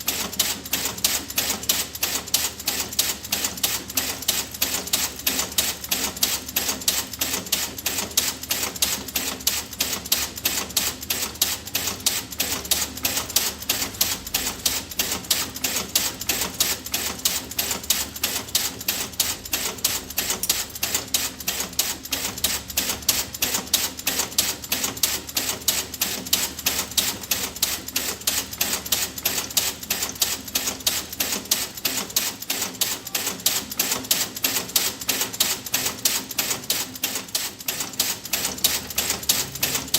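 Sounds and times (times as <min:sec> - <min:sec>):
rapid ticking clicks: 0:00.0 - 0:39.9.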